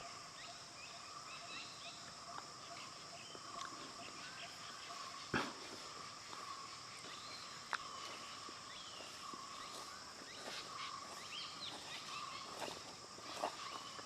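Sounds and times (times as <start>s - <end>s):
bird chirps: 0.0s - 14.0s
high insect drone: 0.0s - 14.0s.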